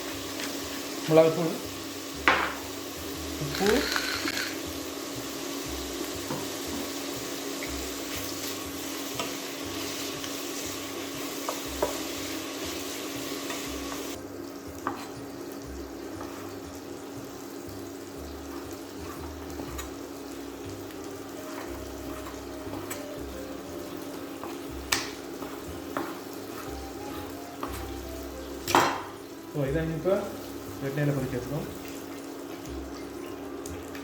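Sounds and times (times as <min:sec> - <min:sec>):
squid sizzling in a pan: 0:00.0 - 0:34.0.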